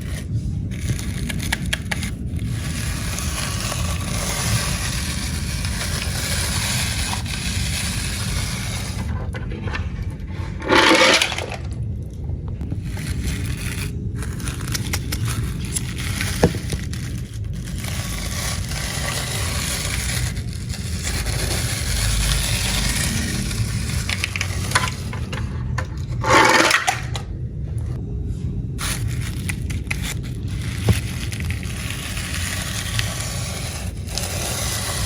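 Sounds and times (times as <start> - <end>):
toy cars scraping and clattering: 0.0 - 11.8, 12.6 - 27.3, 28.8 - 35.0.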